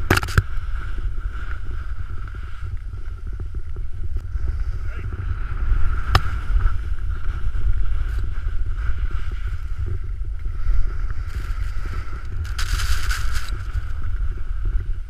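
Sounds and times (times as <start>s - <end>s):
skis carving on snow: 0.0s - 15.0s
wind buffeting microphone: 0.0s - 15.0s.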